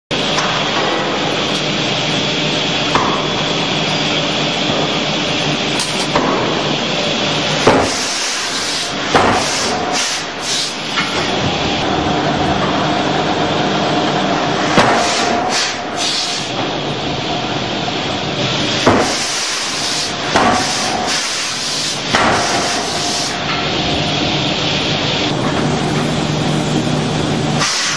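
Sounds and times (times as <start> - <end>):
loud shop drone: 0.1 - 27.9.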